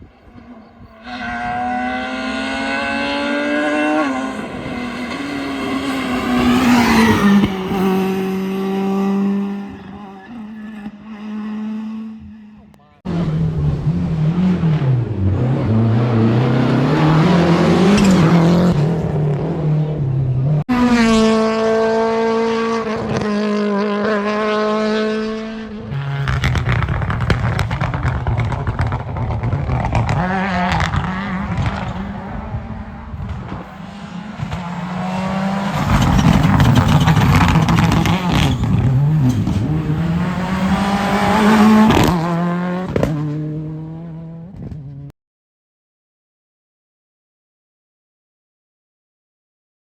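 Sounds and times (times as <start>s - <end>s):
rally car engines revving: 0.0s - 45.1s
car passing with high engine note: 0.3s - 20.2s, 20.8s - 44.5s.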